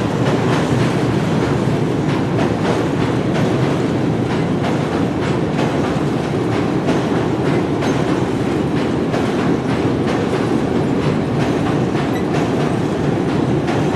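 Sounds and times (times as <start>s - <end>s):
train rumbling on rails: 0.0s - 13.9s
wheels clicking over rail joints: 0.0s - 13.9s.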